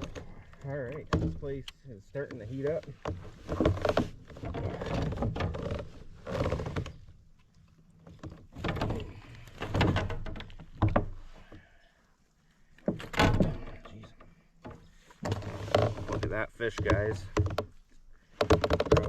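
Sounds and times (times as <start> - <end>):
knocks and thumps on kayak hull: 0.0 - 1.6, 2.2 - 7.1, 8.1 - 11.7, 12.8 - 19.0.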